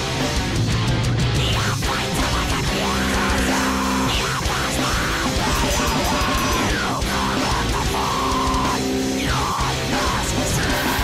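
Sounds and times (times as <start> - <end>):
heavy music with distorted guitar: 0.0 - 11.0.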